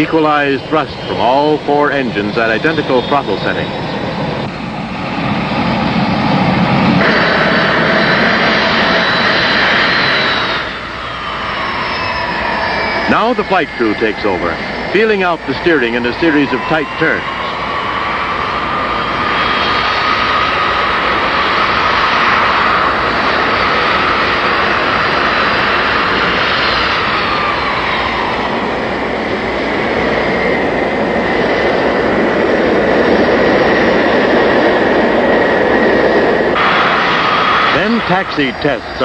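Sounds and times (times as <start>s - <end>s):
jet engines whining: 0.0s - 39.0s.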